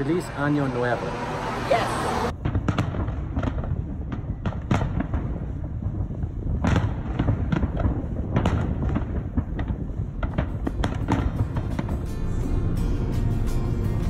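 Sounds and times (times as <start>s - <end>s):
continuous low rumble: 2.2s - 14.0s.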